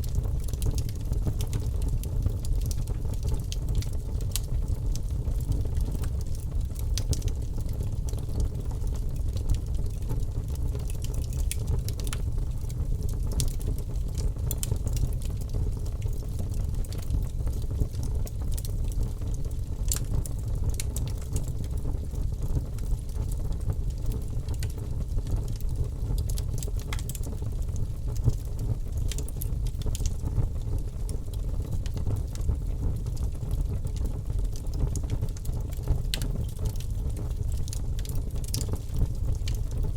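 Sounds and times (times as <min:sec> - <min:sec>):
fire flames rumbling: 0:00.0 - 0:39.9
wood crackling and popping: 0:00.0 - 0:39.9.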